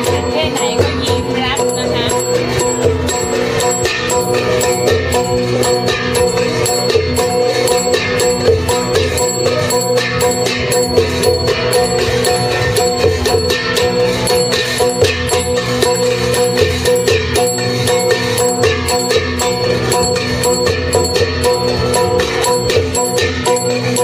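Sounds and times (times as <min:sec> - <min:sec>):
drum beating: 0:00.0 - 0:24.0
ringing gong-like tones: 0:00.0 - 0:24.0.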